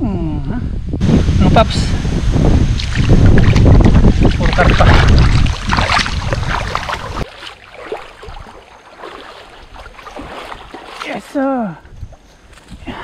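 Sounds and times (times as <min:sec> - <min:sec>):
wind buffeting microphone: 0:00.4 - 0:11.1, 0:11.7 - 0:13.0.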